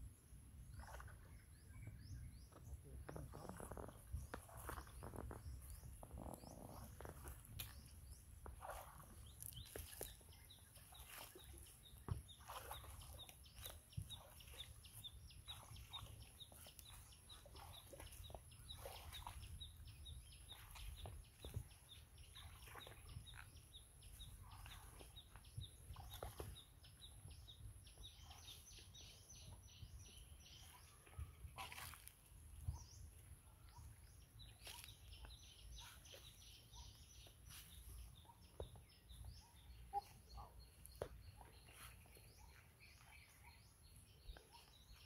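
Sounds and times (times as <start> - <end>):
wading through water: 0.0 - 45.0
birds calling: 0.7 - 45.0.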